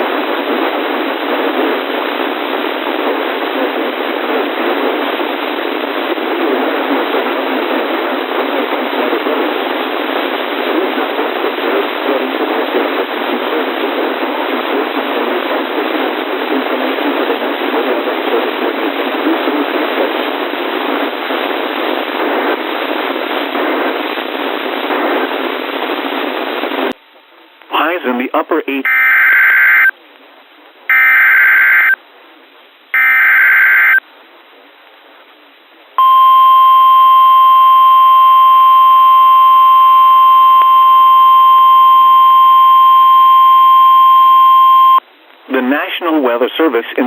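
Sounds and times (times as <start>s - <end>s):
radio static hiss: 0.0s - 27.0s, 27.6s - 32.0s, 32.9s - 34.0s, 36.0s - 47.0s.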